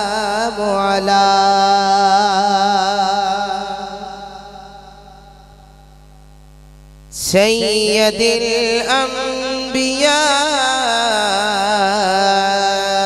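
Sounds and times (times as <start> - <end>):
man chanting: 0.0 - 5.8, 7.1 - 13.0
steady hum: 0.0 - 13.0.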